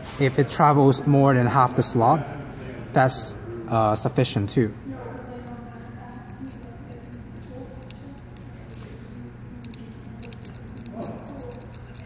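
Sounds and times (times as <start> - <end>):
steady low hum: 2.2 - 12.0.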